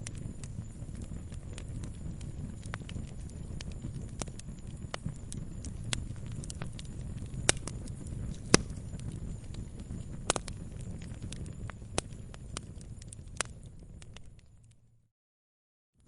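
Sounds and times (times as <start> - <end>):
campfire crackles and pops: 0.0 - 14.9
low rumble of flames: 0.0 - 15.1.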